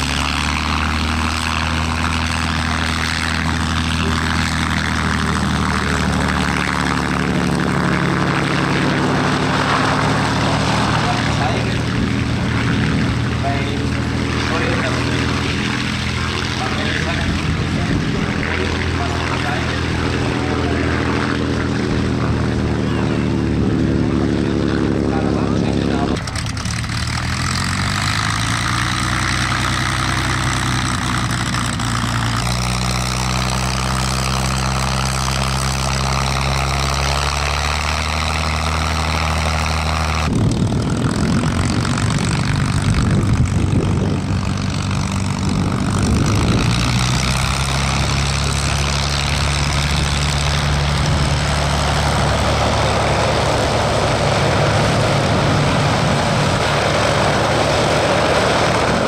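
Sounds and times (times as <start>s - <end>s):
propeller aircraft engines idling: 0.0s - 59.0s.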